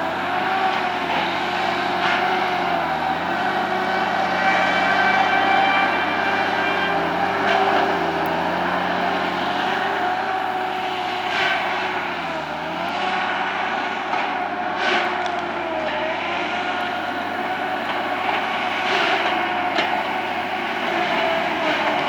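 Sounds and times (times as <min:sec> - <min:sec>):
power equipment engine running: 0:00.0 - 0:22.0.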